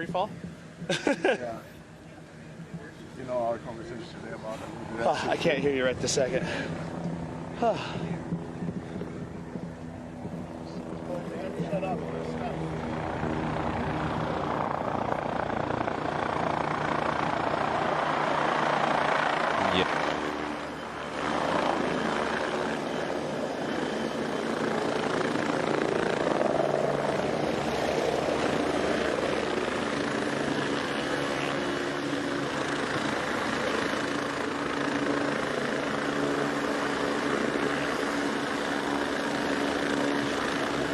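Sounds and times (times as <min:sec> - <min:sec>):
aircraft engine droning: 0:00.0 - 0:40.9.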